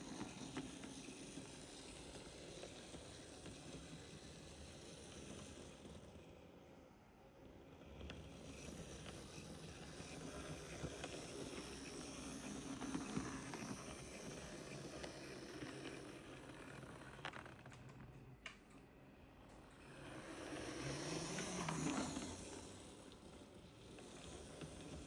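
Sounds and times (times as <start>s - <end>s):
model train motor whirr: 0.0s - 6.4s, 7.4s - 17.7s, 19.6s - 25.0s.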